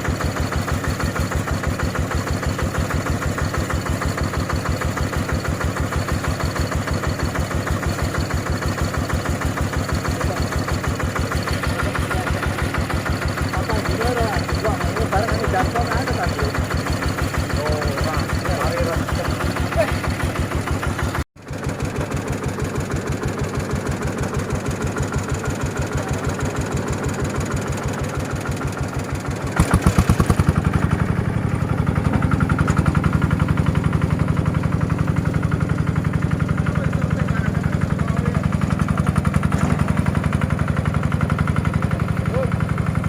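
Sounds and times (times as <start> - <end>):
harvester engine running: 0.0 - 43.0.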